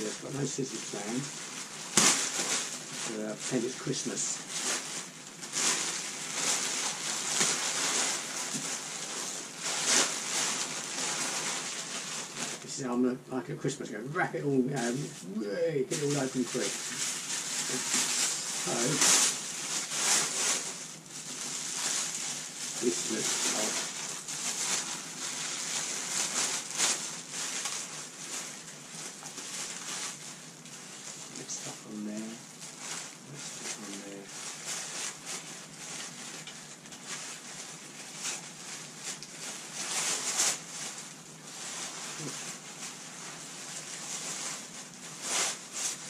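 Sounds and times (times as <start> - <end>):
paper wrapping rustling: 0.0 - 12.8, 14.7 - 46.0
plastic bag crinkling: 0.0 - 13.0, 14.2 - 46.0.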